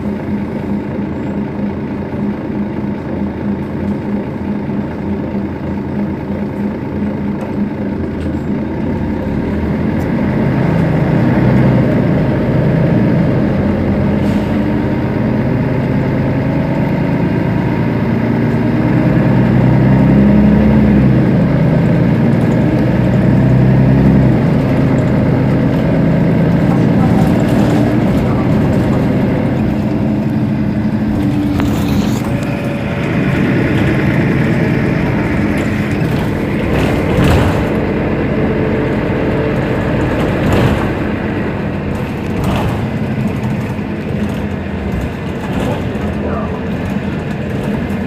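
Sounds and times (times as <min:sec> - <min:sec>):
bus diesel engine idling: 0:00.0 - 0:48.0.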